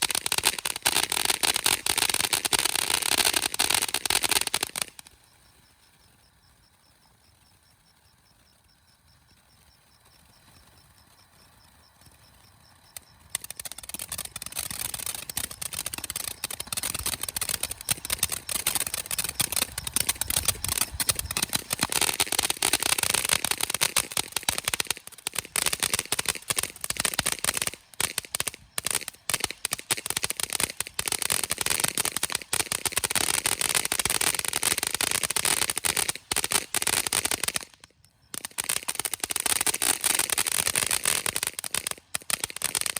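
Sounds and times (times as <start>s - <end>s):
firework fountain crackling: 0.0s - 42.9s.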